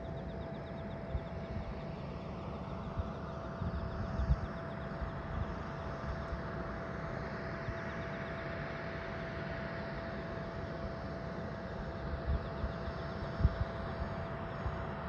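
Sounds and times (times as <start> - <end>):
jet engine whine and rushing hum: 0.0 - 15.0.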